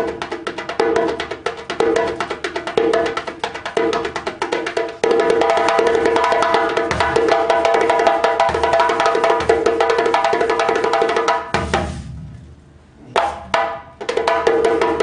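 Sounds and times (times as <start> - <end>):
djembe played with hands: 0.0 - 12.4, 13.0 - 15.0.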